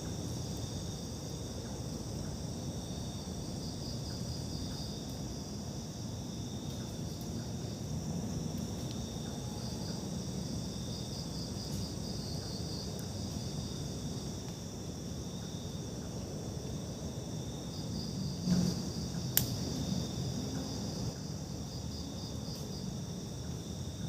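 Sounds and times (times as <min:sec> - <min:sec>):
night insects chirring: 0:00.0 - 0:24.0.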